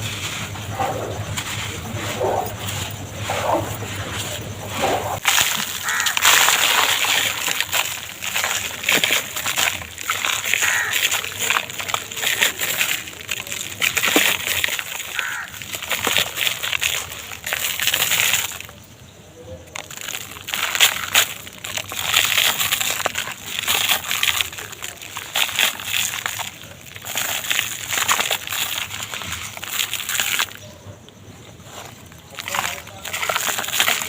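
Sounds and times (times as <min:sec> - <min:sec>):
dry material crushed by hand: 0:00.0 - 0:18.8, 0:19.6 - 0:34.0.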